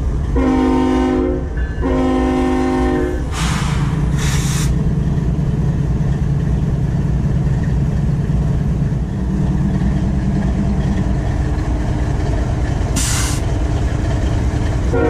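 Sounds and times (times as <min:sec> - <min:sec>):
locomotive engine idling: 0:01.9 - 0:15.0.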